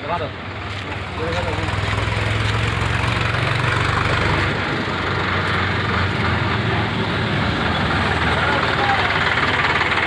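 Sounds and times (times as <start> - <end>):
vehicle engine idling: 0.1 - 10.0.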